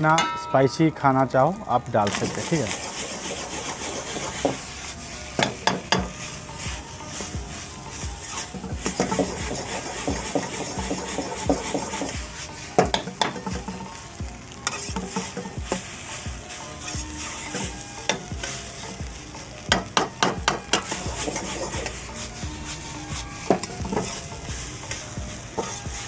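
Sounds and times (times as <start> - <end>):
food sizzling in wok: 0.5 - 26.0
metal ladle scraping wok: 2.0 - 26.0.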